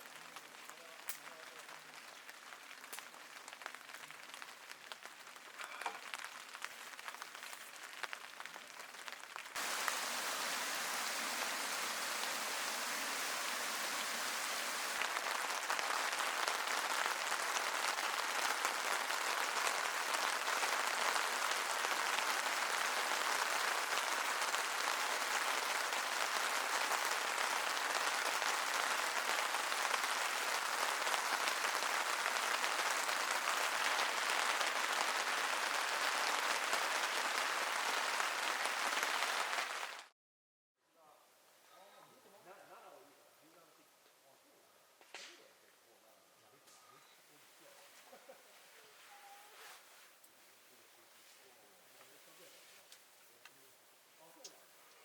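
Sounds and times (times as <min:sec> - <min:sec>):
steady rain falling: 0:00.0 - 0:40.1, 0:47.5 - 0:55.0.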